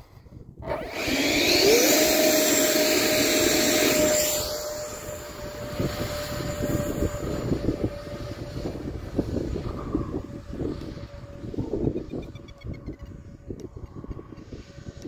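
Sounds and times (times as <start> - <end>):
wind buffeting microphone: 0.0 - 15.0
model jet motor whine: 0.6 - 15.0.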